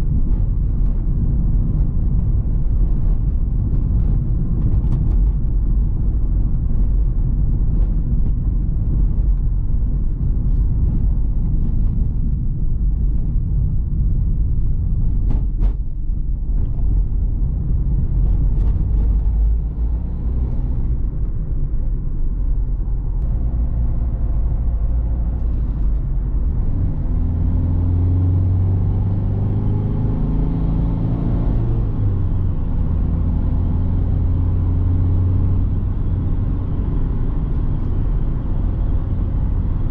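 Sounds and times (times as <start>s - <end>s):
diesel engine accelerating: 0.0s - 39.9s
tyre and suspension rumble: 0.0s - 39.9s.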